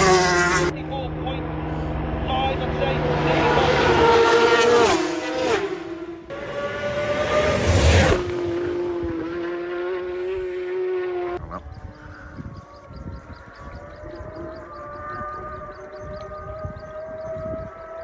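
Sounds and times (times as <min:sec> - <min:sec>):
racing motorbikes passing at speed: 0:00.0 - 0:12.2, 0:13.3 - 0:18.0.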